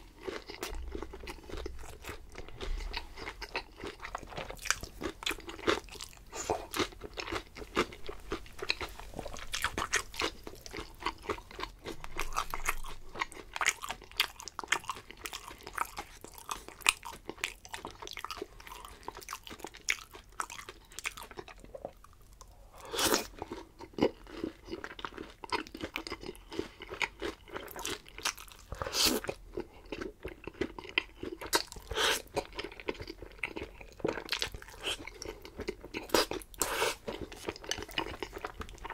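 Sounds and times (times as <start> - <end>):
person chewing crisp food: 0.0 - 38.9.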